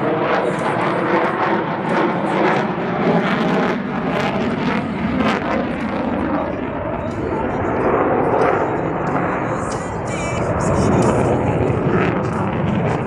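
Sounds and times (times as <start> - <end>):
jet engine roaring in flight: 0.0 - 13.0.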